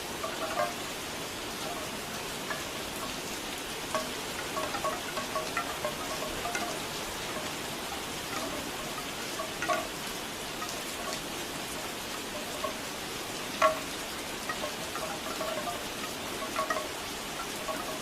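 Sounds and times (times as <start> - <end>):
bamboo wind chimes knocking: 0.0 - 18.0
steady rain: 0.0 - 18.0.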